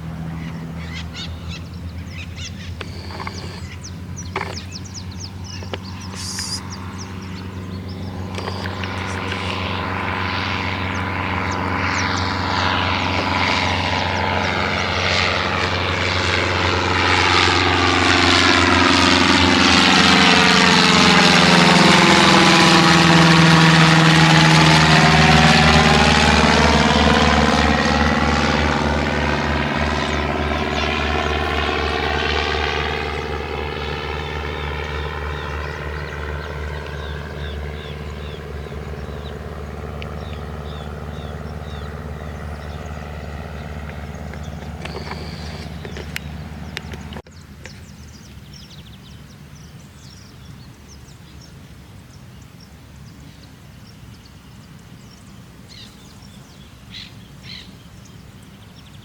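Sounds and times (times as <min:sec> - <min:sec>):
light plane passing by: 0:00.0 - 0:59.0.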